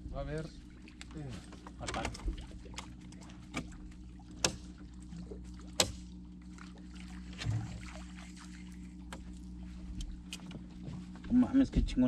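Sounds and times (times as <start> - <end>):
knocks and clatter in boat: 0.0 - 12.0
low motor hum: 0.0 - 12.0.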